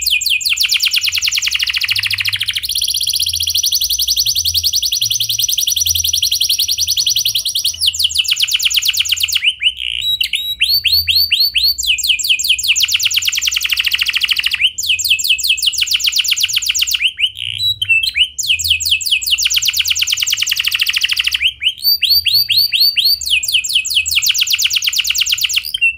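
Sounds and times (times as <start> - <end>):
canary singing trills: 0.0 - 25.9.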